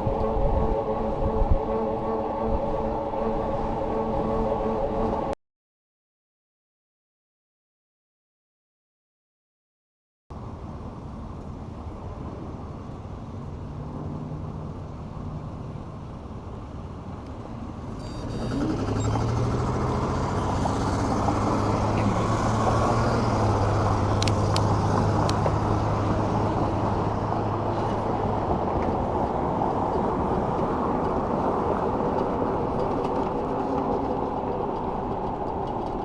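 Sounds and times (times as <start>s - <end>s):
road traffic noise: 0.0s - 5.4s, 10.3s - 36.0s.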